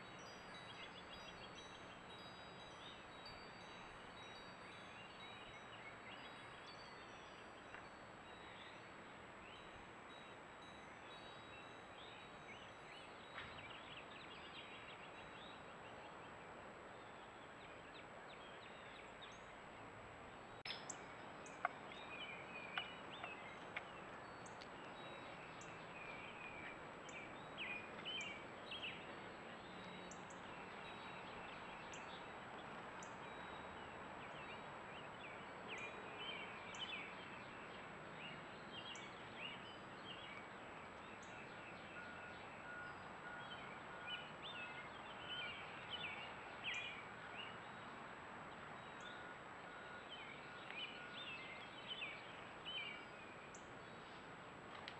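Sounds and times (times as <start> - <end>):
songbirds chirping: 0.0 - 54.9
steady microphone hiss: 0.0 - 54.9.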